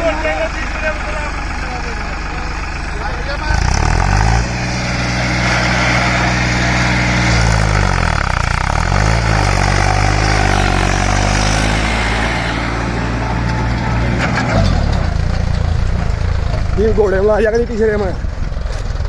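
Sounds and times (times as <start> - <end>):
tractor engine pulling hard: 0.0 - 19.0.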